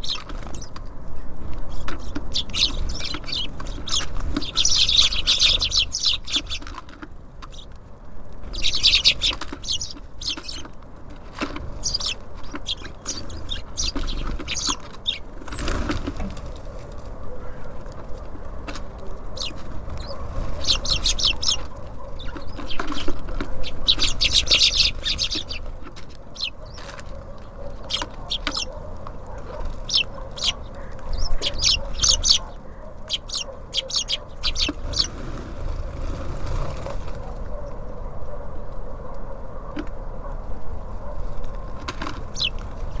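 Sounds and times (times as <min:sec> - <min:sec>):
small birds chirping: 0:00.0 - 0:37.8, 0:41.2 - 0:43.0.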